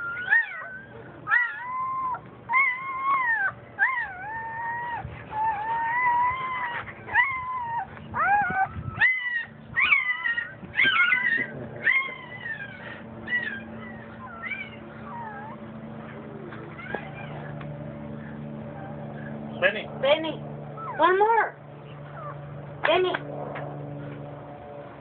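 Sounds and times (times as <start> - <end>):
puppies crying: 0.0 - 19.6, 20.6 - 22.6.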